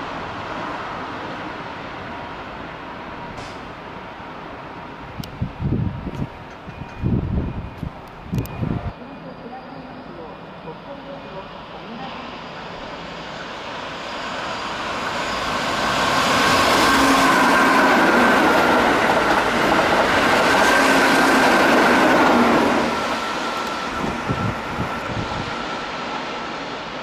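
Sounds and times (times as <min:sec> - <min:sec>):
express train passing: 0:00.0 - 0:27.0
train whine: 0:00.0 - 0:27.0.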